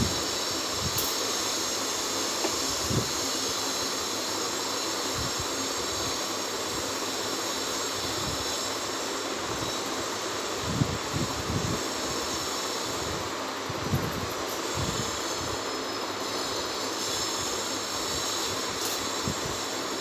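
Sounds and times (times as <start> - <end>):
steady rushing hiss: 0.0 - 20.0.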